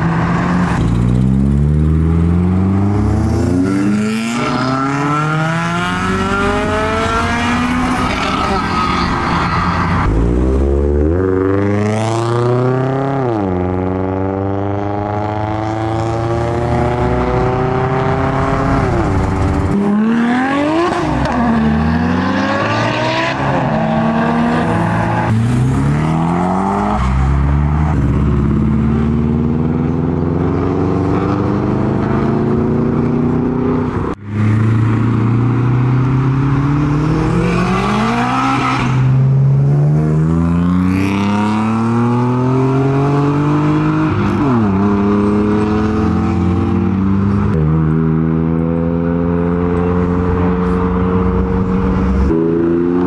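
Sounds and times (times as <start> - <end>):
car engines accelerating: 0.0 - 53.0.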